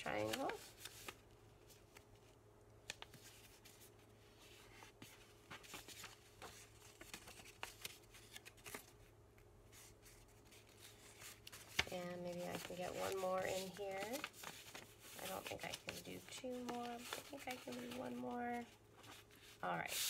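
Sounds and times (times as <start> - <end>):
paper rustling and creasing: 0.0 - 9.1, 9.7 - 20.0
faint steady hum: 0.0 - 20.0.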